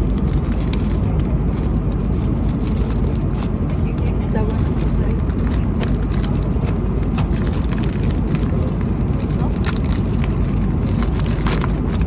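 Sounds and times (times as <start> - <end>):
airliner cabin rumble: 0.0 - 12.0
paper bag crinkling: 0.0 - 12.0.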